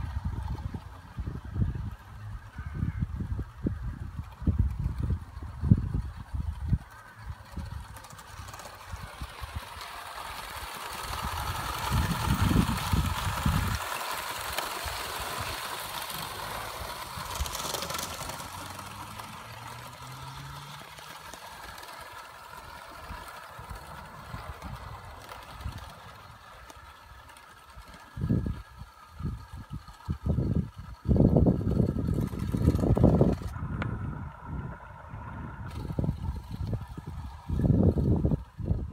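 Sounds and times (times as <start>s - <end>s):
wind rumbling on microphone: 0.0s - 20.5s, 23.0s - 27.2s, 27.8s - 38.9s
model steam locomotive running: 0.0s - 38.9s.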